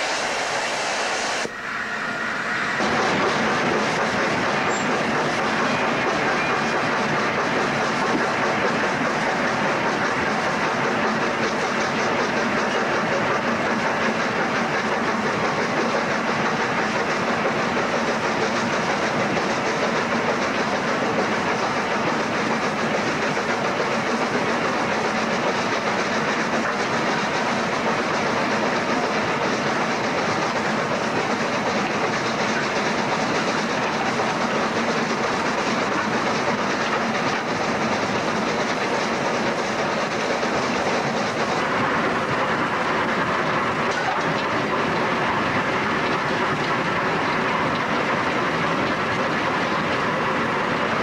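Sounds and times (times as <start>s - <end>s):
steam locomotive running: 0.0s - 51.0s
wheels on rails: 0.0s - 51.0s.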